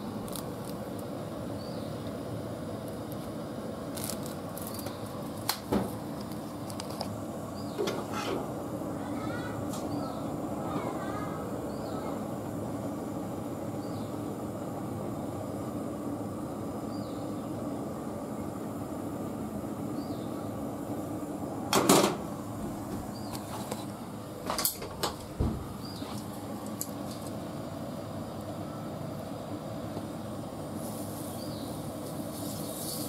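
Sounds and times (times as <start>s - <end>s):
gas burner hissing: 0.0s - 33.0s.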